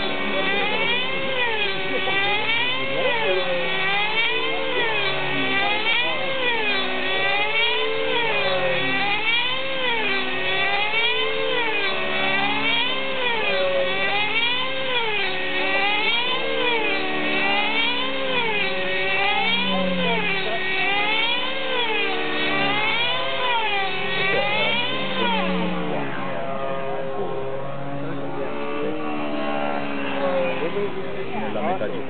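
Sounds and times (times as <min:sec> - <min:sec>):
model aeroplane motor and propeller: 0:00.0 - 0:32.0.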